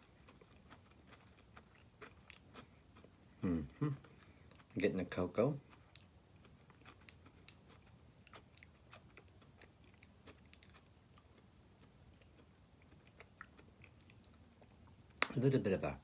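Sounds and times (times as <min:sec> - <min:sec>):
chewing crunchy biscuit: 0:00.0 - 0:15.3.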